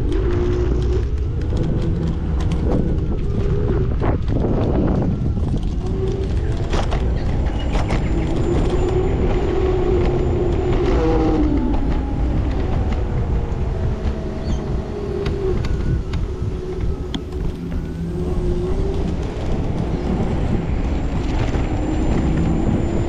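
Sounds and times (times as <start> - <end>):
road rumble: 0.0 - 23.0
wavering mid-pitched whine: 0.0 - 23.0
wind buffeting microphone: 0.0 - 23.0.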